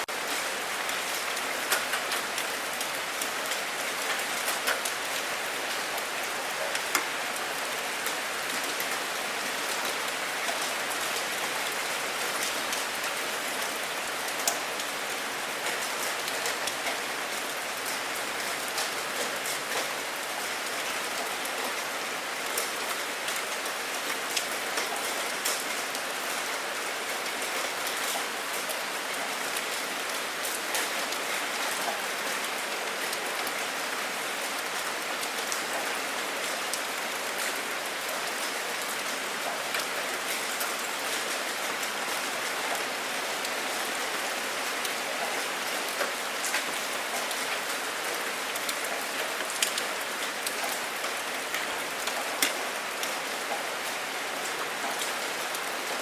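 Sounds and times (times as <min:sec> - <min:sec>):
rain on a hard surface: 0:00.0 - 0:56.0.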